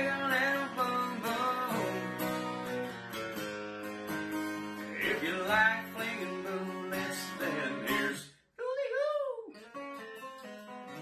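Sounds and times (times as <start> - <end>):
strummed acoustic guitar music: 0.0 - 8.4, 9.5 - 11.0.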